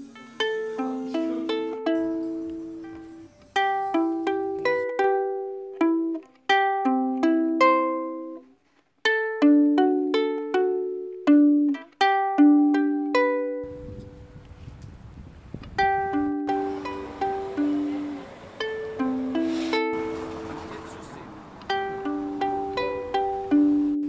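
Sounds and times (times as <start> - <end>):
low steady hiss: 0.0 - 24.0
plucked string melody: 0.0 - 24.0.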